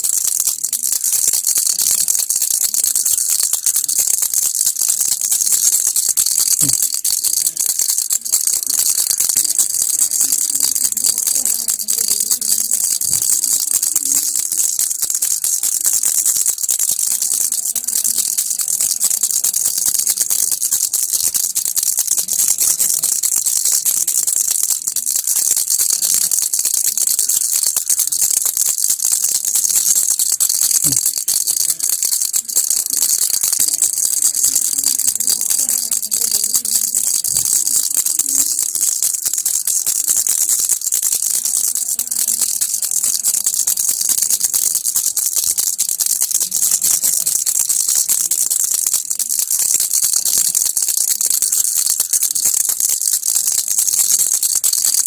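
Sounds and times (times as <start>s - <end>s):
baby rattle shaking: 0.0s - 55.0s.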